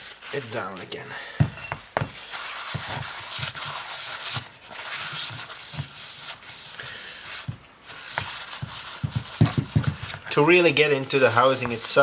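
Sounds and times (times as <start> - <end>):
paper towel rubbing metal: 0.0 - 1.1, 2.2 - 12.0.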